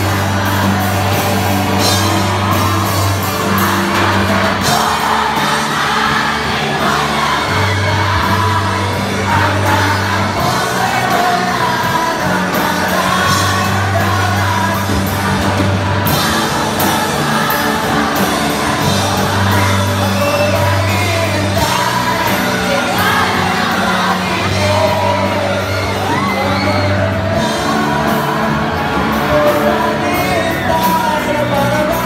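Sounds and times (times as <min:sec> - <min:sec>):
crowd shouting and whooping: 0:00.0 - 0:32.0
live band playing: 0:00.0 - 0:32.0
person singing: 0:00.0 - 0:32.0.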